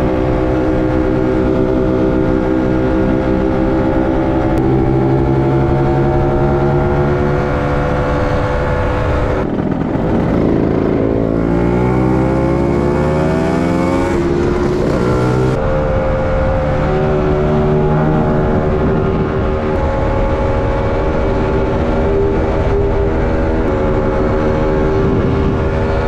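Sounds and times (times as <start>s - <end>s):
motor scooter engine: 0.0s - 25.8s.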